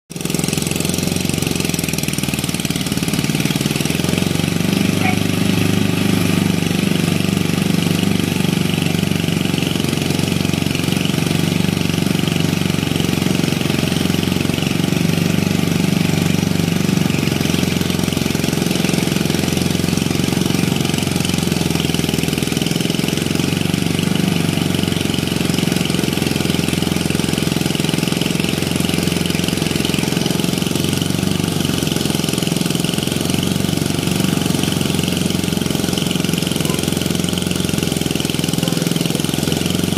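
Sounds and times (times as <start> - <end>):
small engine running steadily: 0.1 - 39.9
thresher threshing crop: 0.1 - 39.9.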